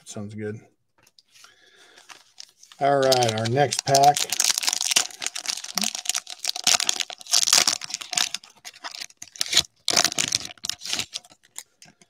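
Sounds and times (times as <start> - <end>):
plastic wrapper tearing and crinkling: 2.0 - 11.8.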